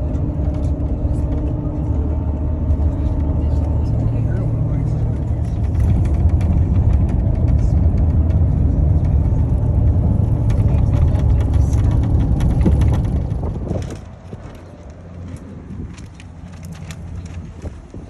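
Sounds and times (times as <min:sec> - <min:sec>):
road and engine rumble: 0:00.0 - 0:18.0.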